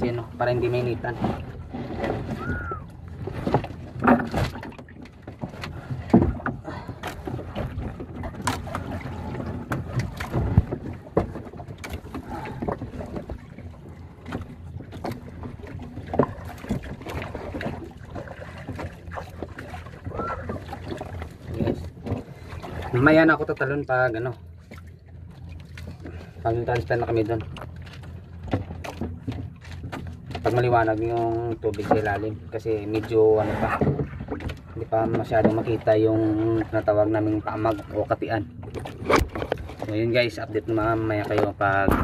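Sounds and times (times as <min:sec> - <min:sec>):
boat on water low noise: 0:00.0 - 0:42.0
knocks and bumps in wooden boat: 0:00.0 - 0:42.0.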